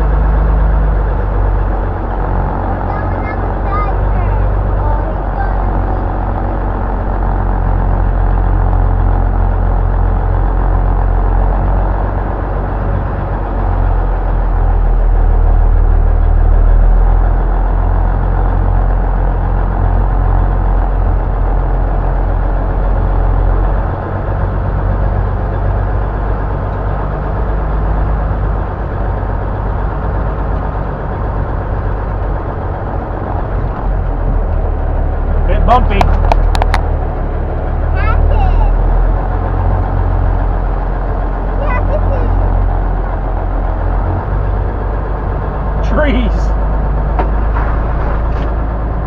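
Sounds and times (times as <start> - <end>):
truck diesel engine droning: 0.0 - 49.0.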